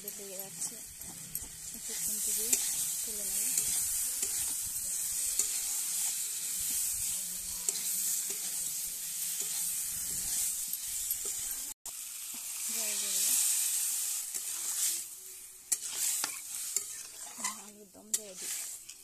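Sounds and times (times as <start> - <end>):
metal spatula scraping wok: 0.0 - 11.8, 12.4 - 19.0
potatoes sizzling in hot oil: 0.0 - 19.0
water poured into hot pan: 0.0 - 19.0.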